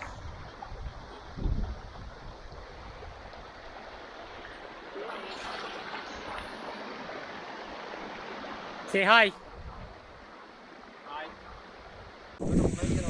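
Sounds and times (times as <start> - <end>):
mountain stream flowing: 0.0 - 13.0.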